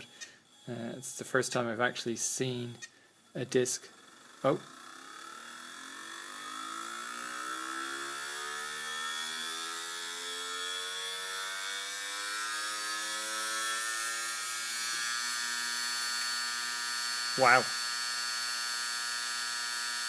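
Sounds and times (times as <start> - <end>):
hard disk spinning up whine: 0.0 - 20.0.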